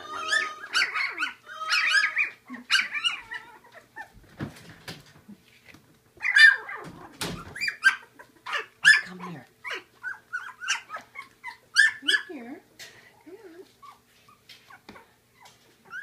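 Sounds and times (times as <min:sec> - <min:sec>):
puppies whimpering and yipping: 0:00.0 - 0:04.3, 0:06.2 - 0:12.6, 0:13.3 - 0:16.0.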